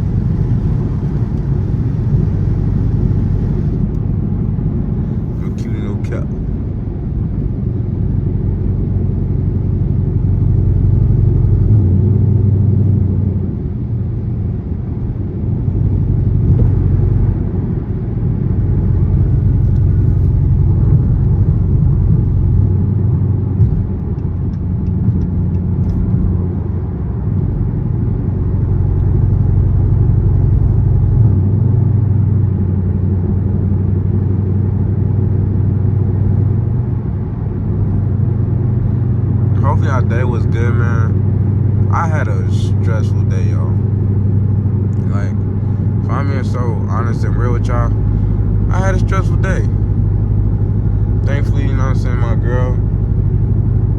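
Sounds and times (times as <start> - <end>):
car engine droning at cruise: 0.0 - 53.9.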